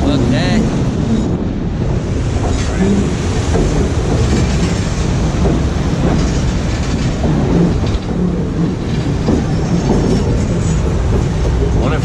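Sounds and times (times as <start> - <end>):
train rumbling: 0.0 - 12.0
wheels clattering on rails: 0.0 - 12.0.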